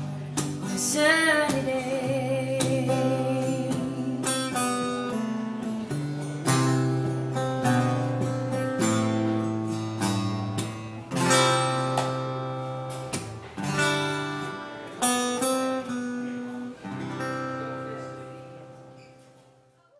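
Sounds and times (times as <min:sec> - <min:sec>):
acoustic guitar strumming: 0:00.0 - 0:19.8.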